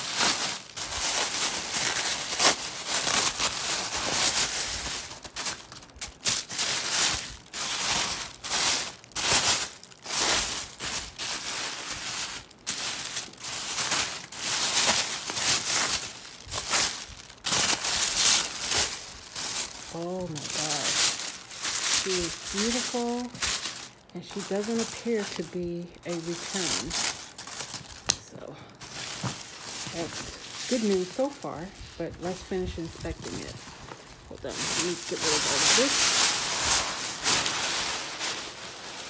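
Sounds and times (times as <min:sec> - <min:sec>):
tissue paper rustling and crinkling: 0:00.0 - 0:39.0.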